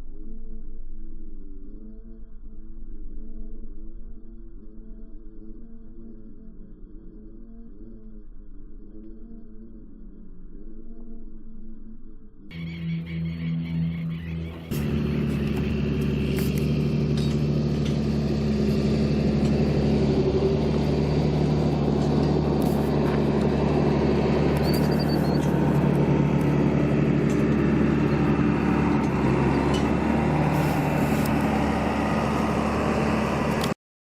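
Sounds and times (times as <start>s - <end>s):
vehicle engine hum: 0.0s - 33.8s.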